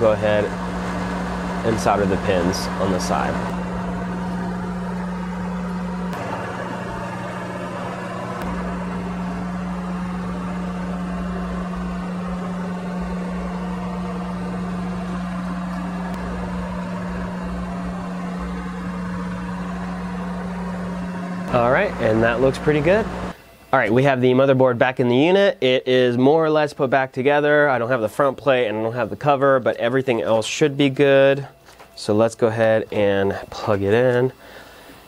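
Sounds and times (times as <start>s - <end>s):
low hum with fan hiss: 0.0s - 35.0s.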